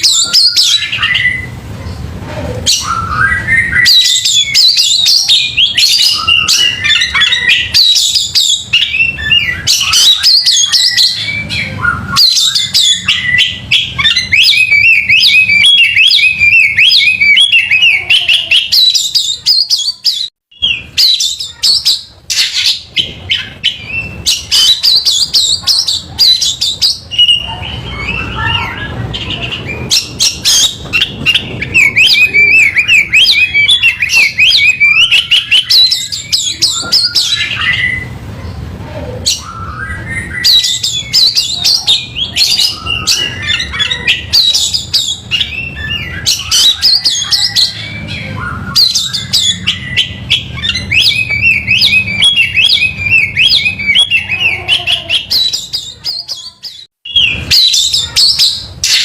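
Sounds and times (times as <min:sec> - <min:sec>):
bird song chattering and whistling: 0:00.0 - 0:59.0.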